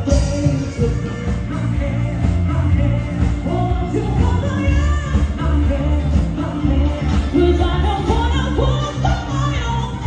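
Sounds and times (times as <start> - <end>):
bass guitar: 0.0 - 10.0
drums: 0.0 - 10.0
electric guitar: 0.0 - 10.0
person singing: 0.0 - 10.0.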